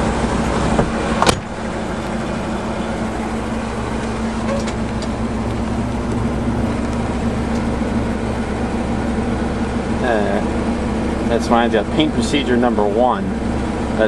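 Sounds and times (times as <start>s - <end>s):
engine idling low hum: 0.0s - 14.0s.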